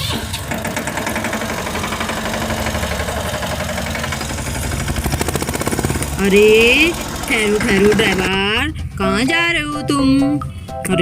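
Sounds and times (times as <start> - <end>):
toy tractor chugging: 0.0 - 9.0.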